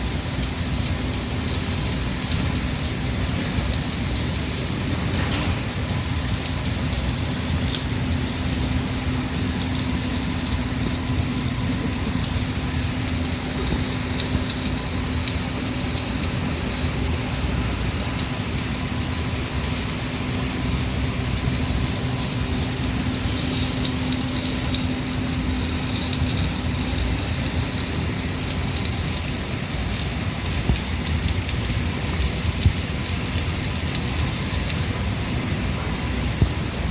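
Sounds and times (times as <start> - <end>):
arc welding crackling hiss: 0.0 - 35.3.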